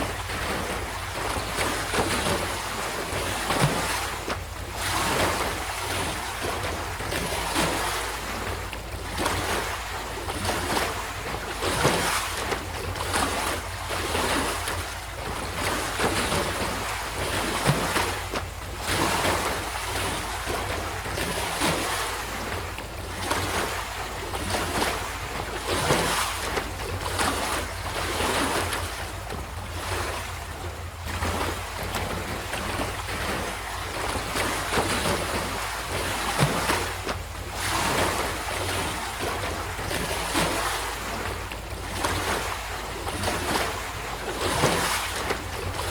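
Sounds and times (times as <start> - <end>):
low rumble of surf: 0.0 - 45.9
waves breaking on shore: 0.0 - 45.9.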